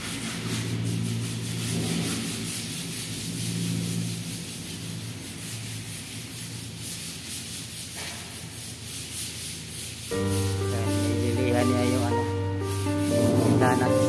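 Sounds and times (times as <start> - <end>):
hand sanding gritty scratching: 0.0 - 14.0.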